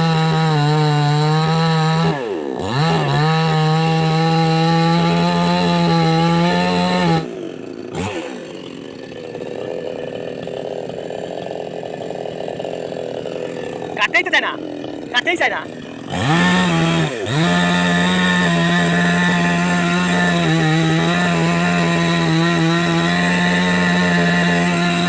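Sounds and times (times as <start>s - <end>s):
chainsaw revving: 0.0s - 25.0s.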